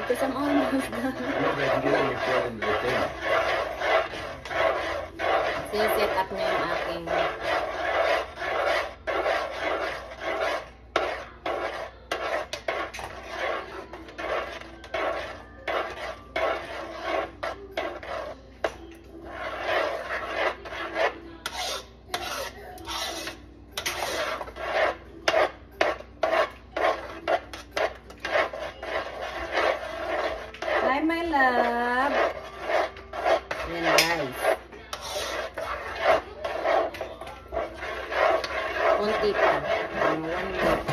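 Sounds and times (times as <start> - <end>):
spoon scraping in a pot: 0.0 - 40.9.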